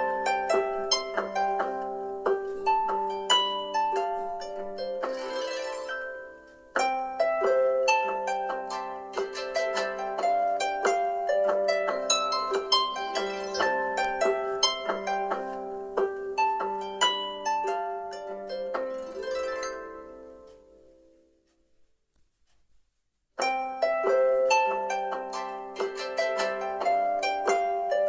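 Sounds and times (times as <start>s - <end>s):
plucked harp-like alarm melody: 0.0s - 21.4s, 23.4s - 28.0s.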